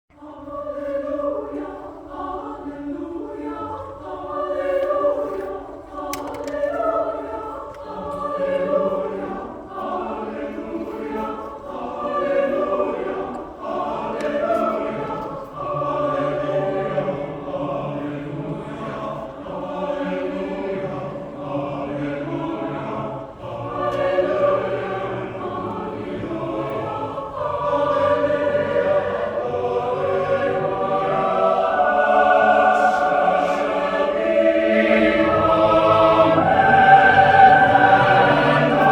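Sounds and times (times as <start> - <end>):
choir singing: 0.1 - 38.9.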